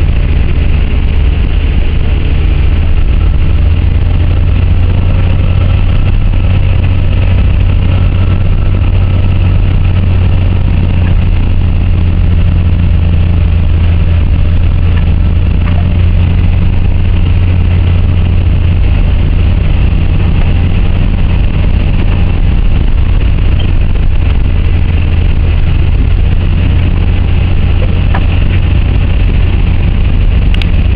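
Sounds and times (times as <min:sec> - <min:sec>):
car engine drone inside cabin: 0:00.0 - 0:30.9
road hiss: 0:00.0 - 0:30.9.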